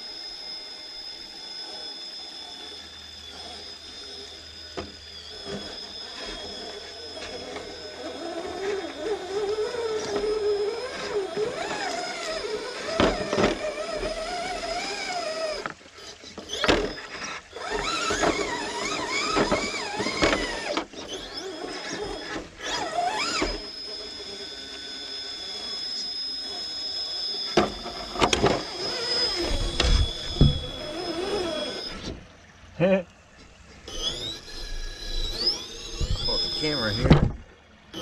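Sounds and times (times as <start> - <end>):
electric motor whining: 0.0 - 32.6, 33.3 - 38.0.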